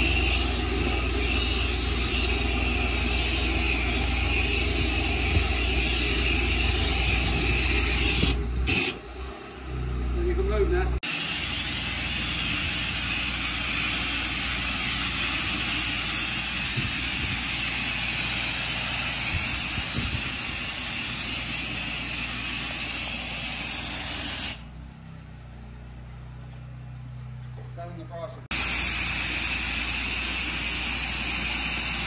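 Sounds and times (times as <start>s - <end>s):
pressure washer spray hissing: 0.0s - 9.0s, 11.0s - 24.6s, 28.5s - 32.0s.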